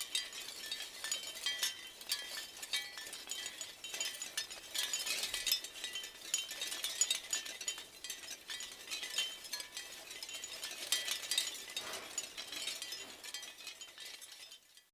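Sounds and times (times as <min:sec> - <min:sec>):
wind chimes clinking: 0:00.0 - 0:14.9.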